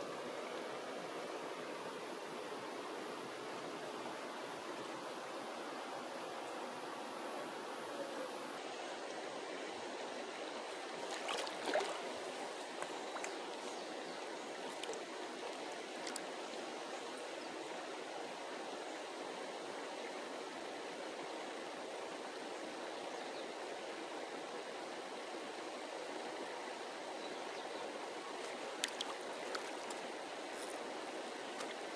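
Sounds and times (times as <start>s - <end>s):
river water flowing past rocks: 0.0s - 31.9s.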